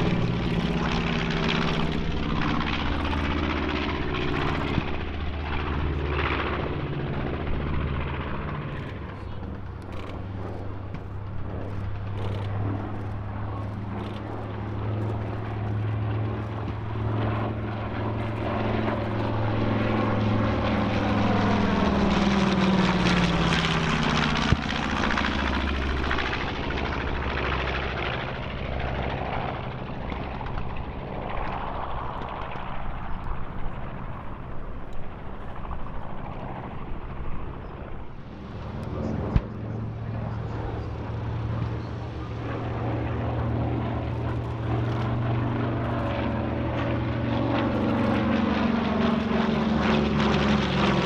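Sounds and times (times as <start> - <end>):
propeller plane flying past: 0.0 - 51.0.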